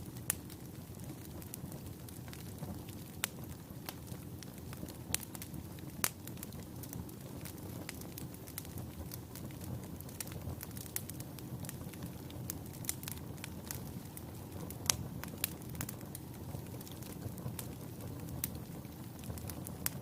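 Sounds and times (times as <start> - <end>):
loud fire pops: 0.0 - 20.0
wood fire crackling: 0.0 - 20.0.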